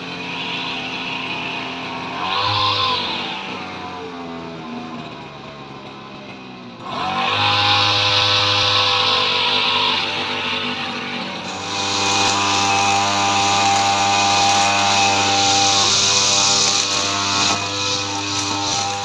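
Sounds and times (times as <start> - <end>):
brush cutter engine cutting grass: 0.0 - 19.0.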